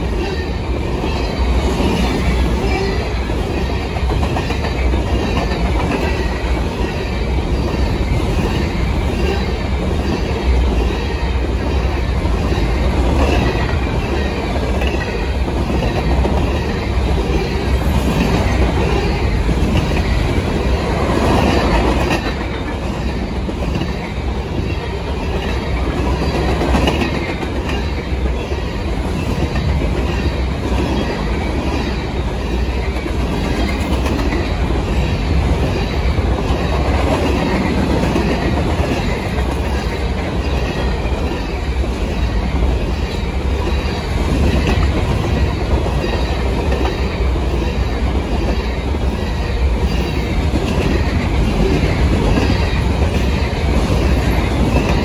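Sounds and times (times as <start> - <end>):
freight train wheels rumbling: 0.0 - 55.0
wheels clickety-clack on rail: 0.0 - 55.0.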